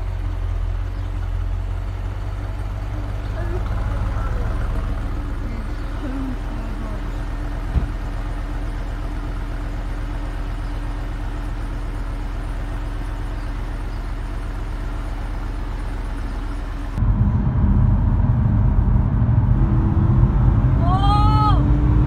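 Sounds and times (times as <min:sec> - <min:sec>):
car engine idling: 0:00.0 - 0:22.0
engine heard from inside moving car: 0:00.0 - 0:22.0.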